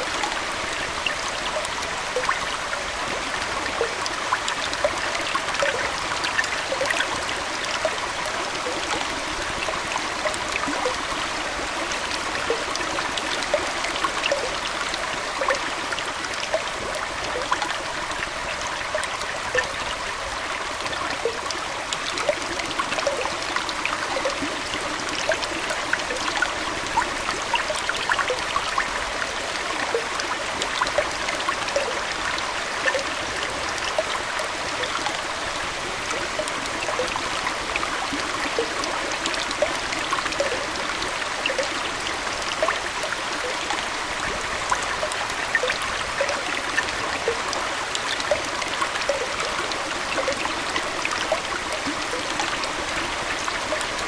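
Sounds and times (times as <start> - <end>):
small bubbling plinks: 0.0 - 54.0
water trickling and gurgling: 0.0 - 54.0.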